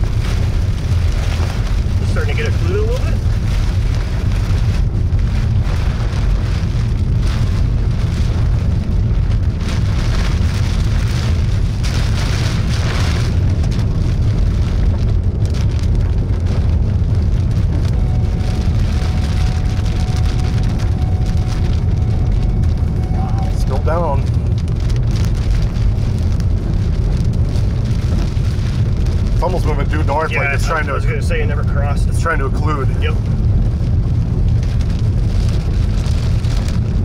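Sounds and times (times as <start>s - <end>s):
gusty wind: 0.0s - 37.0s
rain beating on vehicle: 0.0s - 37.0s
steady low rumble: 0.0s - 37.0s.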